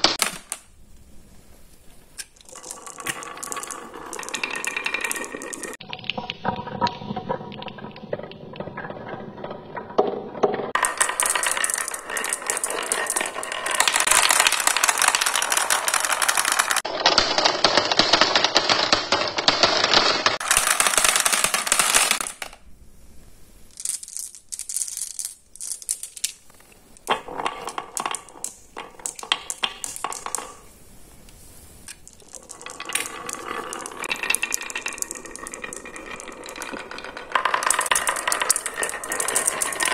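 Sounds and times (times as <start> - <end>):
marbles dropping into plastic tray: 2.2 - 22.6, 23.7 - 30.7, 31.8 - 39.9
marbles rolling on wooden track: 2.2 - 22.6, 23.7 - 30.8, 31.4 - 39.9.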